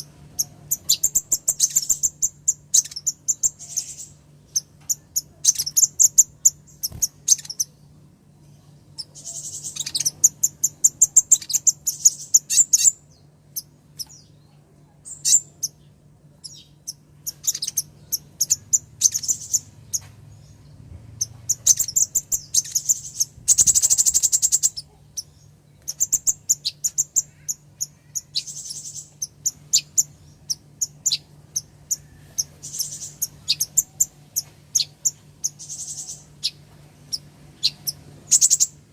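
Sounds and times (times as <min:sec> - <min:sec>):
bird ticking chirps: 0:00.0 - 0:07.7, 0:09.0 - 0:14.3, 0:15.1 - 0:20.1, 0:21.2 - 0:38.8
bird trill: 0:00.0 - 0:07.9, 0:08.6 - 0:38.9.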